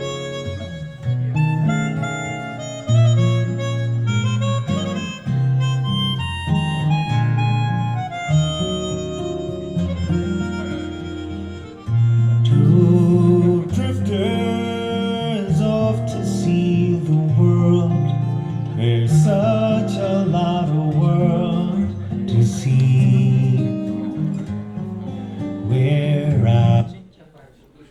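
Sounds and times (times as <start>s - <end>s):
harmonica melody: 0.0s - 26.8s
acoustic guitar: 0.0s - 27.9s.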